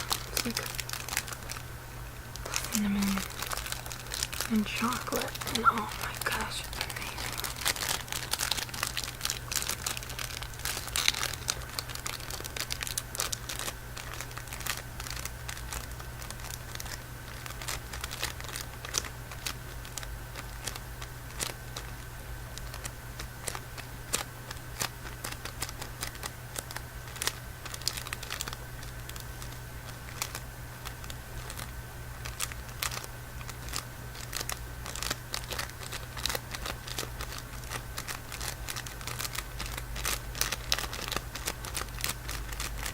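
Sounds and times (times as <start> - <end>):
steady low hum: 0.0 - 42.9
wrapper crinkling: 0.0 - 42.9.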